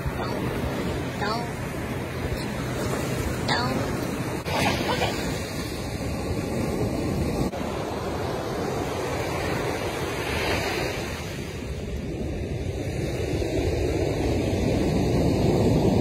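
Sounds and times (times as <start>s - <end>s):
ocean surf washing on shore: 0.0s - 16.0s.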